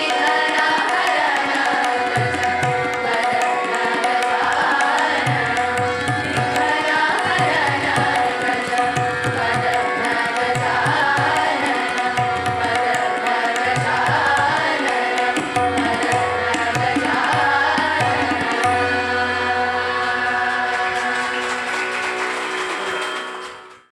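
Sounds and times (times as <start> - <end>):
choir of young voices singing: 0.0 - 21.8
harmonium: 0.0 - 23.9.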